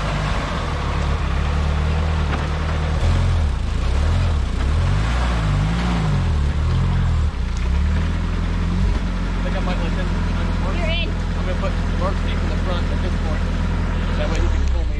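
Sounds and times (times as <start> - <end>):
engine revving: 0.0 - 14.9.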